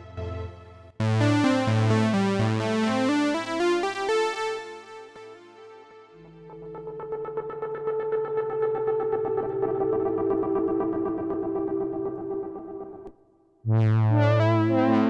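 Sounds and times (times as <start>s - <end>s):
synthesizer chords with bass line: 0.0s - 13.1s, 13.7s - 15.0s.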